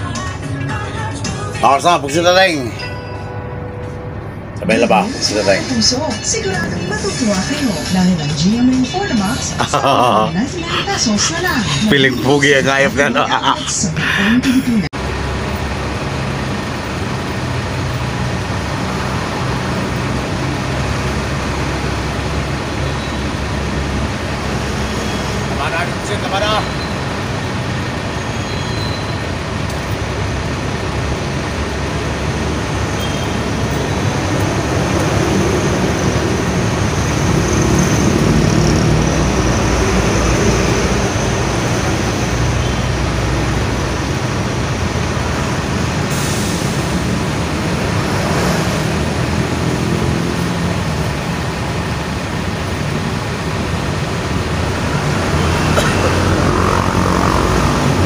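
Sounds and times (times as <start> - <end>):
bus engines and traffic rumble: 0.0 - 58.0.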